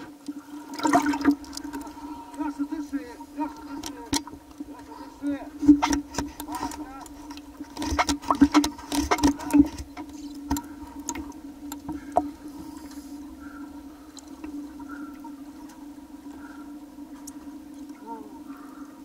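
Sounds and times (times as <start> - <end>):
steady low hum: 0.0 - 19.0
water sloshing and splashing: 0.0 - 19.0.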